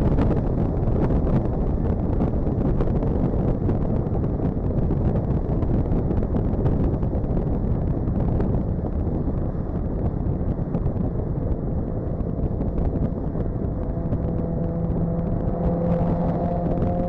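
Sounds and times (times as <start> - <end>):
car cruising on highway: 0.0 - 17.0
heavy road noise: 0.0 - 17.0
steady engine tone: 0.0 - 17.0.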